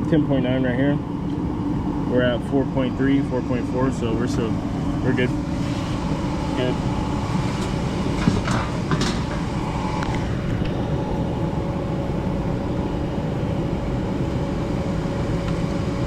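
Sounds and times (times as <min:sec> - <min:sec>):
faint constant hum: 0:00.0 - 0:16.0
furnace blower rushing and rumbling: 0:00.0 - 0:16.0.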